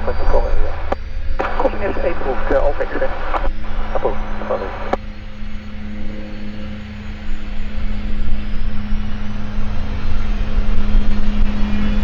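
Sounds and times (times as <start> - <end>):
faint rising whine: 0.0 - 12.0
jet engines humming: 0.0 - 12.0.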